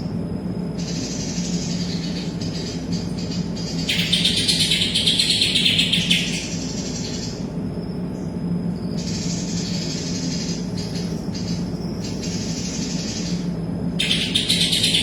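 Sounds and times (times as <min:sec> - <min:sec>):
steady low hum: 0:00.0 - 0:15.0
bird singing high-pitched song: 0:00.7 - 0:15.0.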